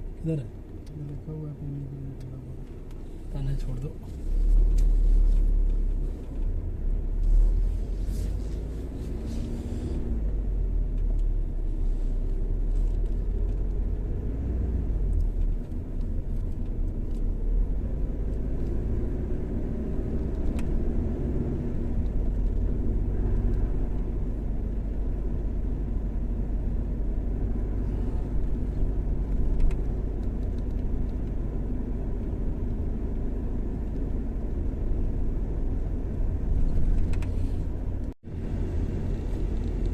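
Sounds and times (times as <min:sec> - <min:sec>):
car driving on highway: 0:00.0 - 0:39.9.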